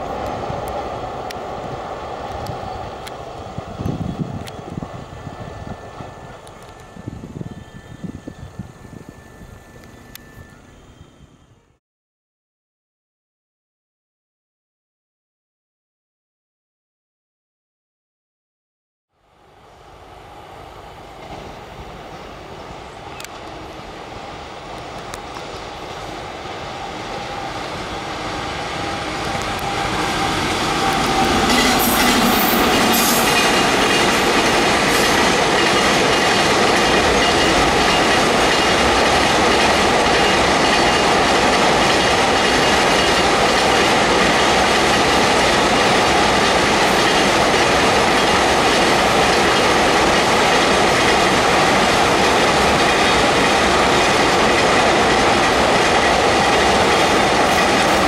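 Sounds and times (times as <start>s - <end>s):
freight train passing: 0.0s - 11.8s, 19.2s - 58.0s.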